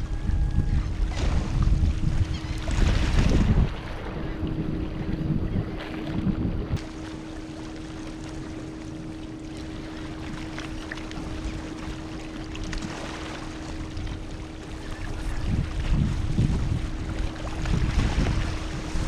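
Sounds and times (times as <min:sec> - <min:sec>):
ocean waves washing ashore: 0:00.0 - 0:19.0
steady low hum: 0:00.0 - 0:19.0.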